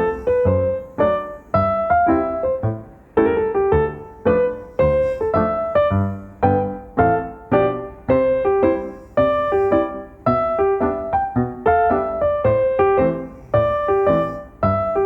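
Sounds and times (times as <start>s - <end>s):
calm piano melody: 0.0s - 15.0s.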